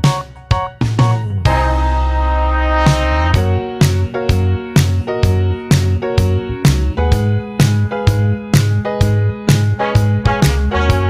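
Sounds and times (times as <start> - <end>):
upbeat music with steady beat: 0.0 - 11.0.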